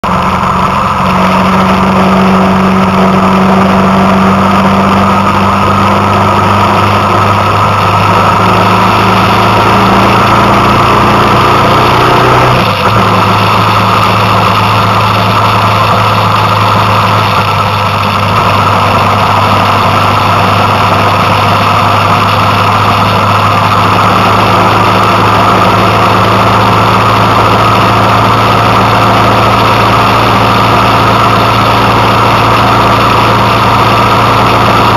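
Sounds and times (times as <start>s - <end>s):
vehicle engine running: 0.0s - 34.9s
wind and road noise: 0.0s - 34.9s.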